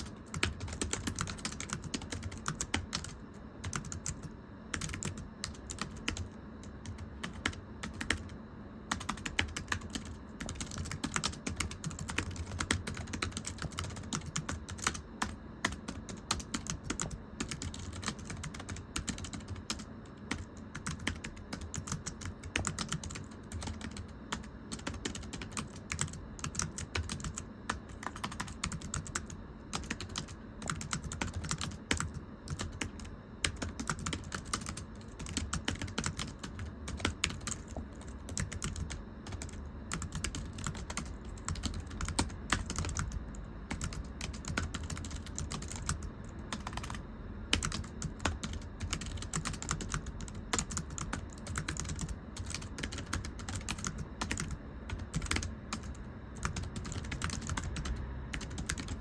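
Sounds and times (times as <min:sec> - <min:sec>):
typing on a thin keyboard: 0:00.0 - 0:59.0.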